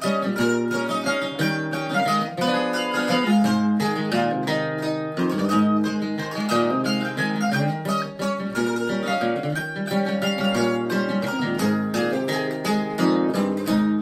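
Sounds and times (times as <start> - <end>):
acoustic guitar strumming: 0.0 - 14.0
plucked mandolin: 0.0 - 14.0.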